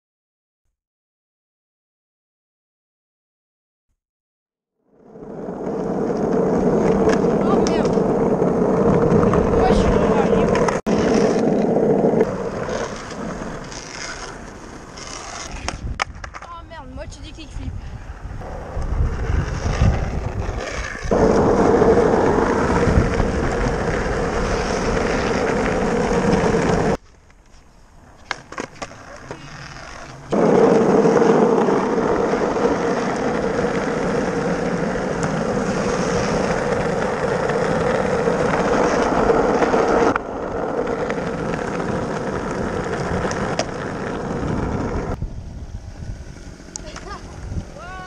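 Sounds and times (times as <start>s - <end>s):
skateboard wheels rolling on asphalt: 4.9s - 48.0s.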